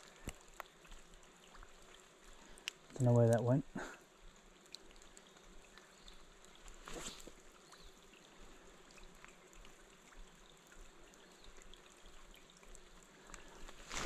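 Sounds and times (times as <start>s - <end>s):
running river water: 0.0s - 14.0s.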